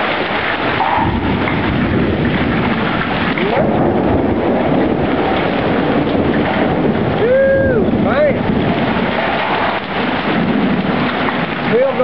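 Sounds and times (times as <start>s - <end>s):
hailstones clattering: 0.0s - 12.0s
heavy rain: 0.0s - 12.0s.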